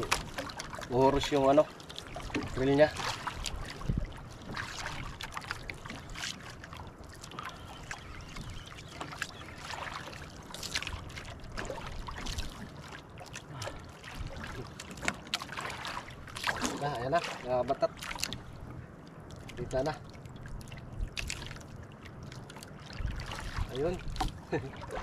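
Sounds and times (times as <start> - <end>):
water slapping against boat hull: 0.0 - 25.0.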